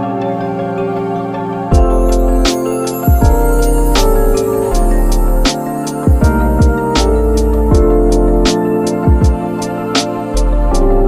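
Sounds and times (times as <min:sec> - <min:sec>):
mellow keyboard music with beat: 0:00.0 - 0:11.0.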